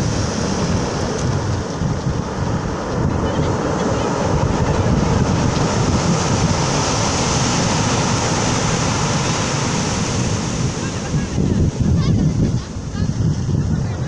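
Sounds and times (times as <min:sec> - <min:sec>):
surf washing up pebble beach: 0:00.0 - 0:14.0
wind buffeting microphone: 0:00.0 - 0:14.0.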